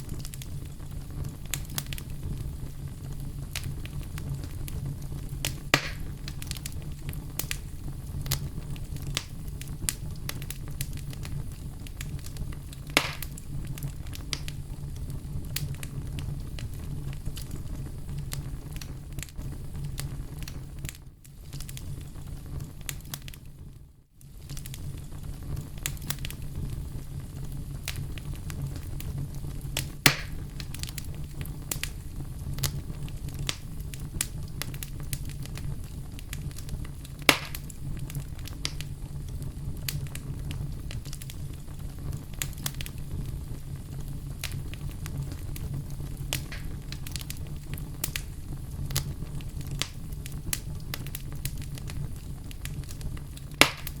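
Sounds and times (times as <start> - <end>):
campfire crackling: 0.0 - 23.6, 24.2 - 54.0
loud fire pops: 0.0 - 23.6, 24.3 - 54.0.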